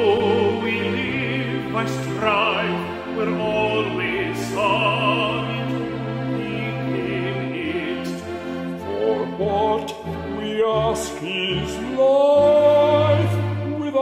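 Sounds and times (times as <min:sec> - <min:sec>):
operatic ensemble singing: 0:00.0 - 0:13.7.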